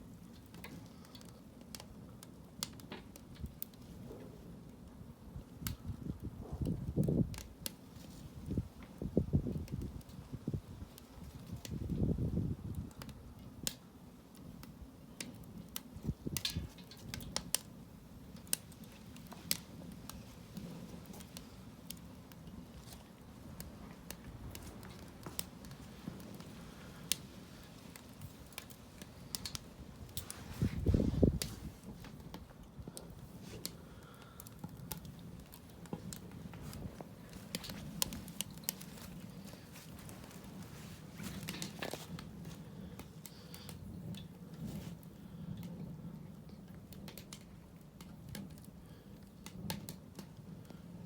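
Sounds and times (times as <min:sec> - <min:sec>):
fire popping: 0:00.0 - 0:51.0
wood fire crackling: 0:00.0 - 0:51.0.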